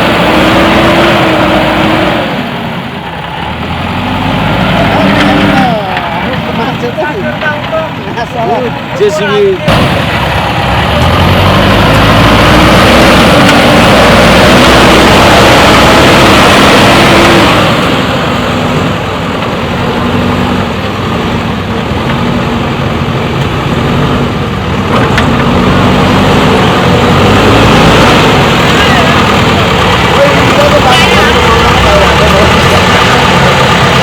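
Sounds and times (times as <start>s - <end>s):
diesel engine revving under load: 0.0s - 34.0s.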